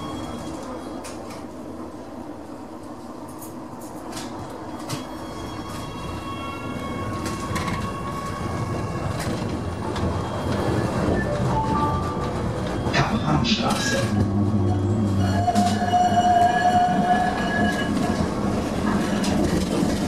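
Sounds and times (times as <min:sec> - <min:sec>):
tram rolling rumble: 0:00.0 - 0:20.0.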